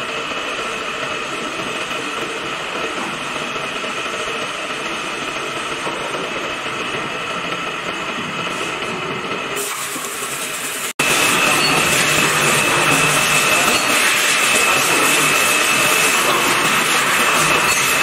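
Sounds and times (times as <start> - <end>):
milling machine whirring and whining: 0.0 - 18.0.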